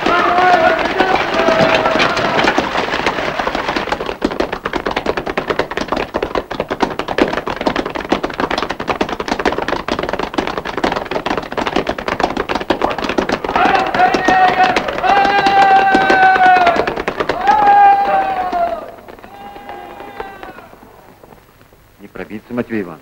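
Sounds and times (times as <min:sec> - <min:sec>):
horses galloping on hard ground: 0:00.0 - 0:22.9.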